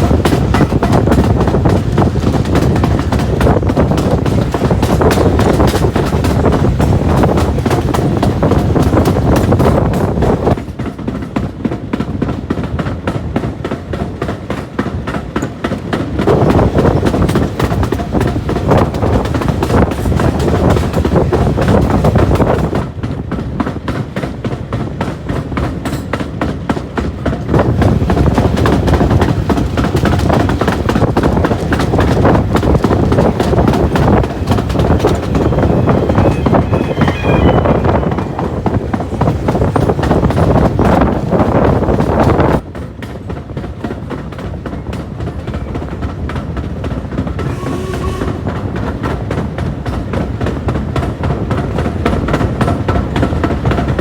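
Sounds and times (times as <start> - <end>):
train wheels rumbling: 0.0 - 54.0
wheels clicking over rails: 0.0 - 54.0.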